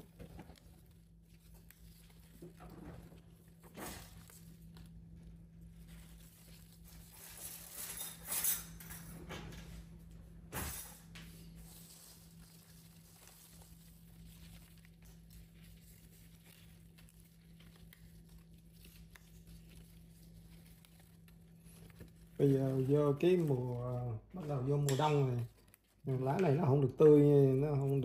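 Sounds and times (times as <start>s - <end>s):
faint rustles and knocks: 0.0s - 26.6s
steady low hum: 0.0s - 28.0s.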